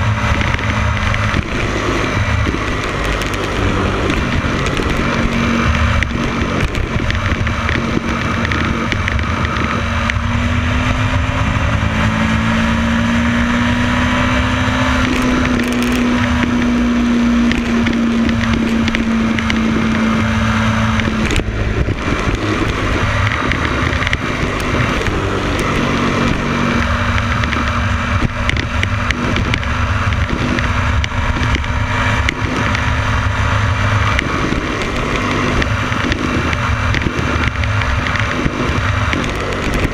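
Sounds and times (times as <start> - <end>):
motorcycle engine drone: 0.0 - 39.9
road noise: 0.0 - 39.9
wind noise: 0.0 - 39.9.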